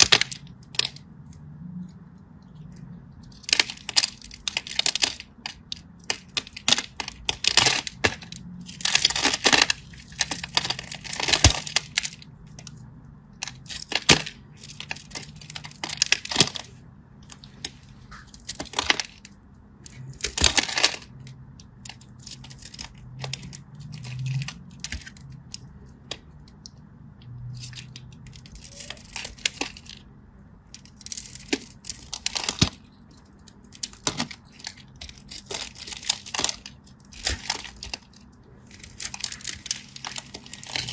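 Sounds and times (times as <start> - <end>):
brittle material crunching: 0.0 - 26.8, 27.4 - 40.9.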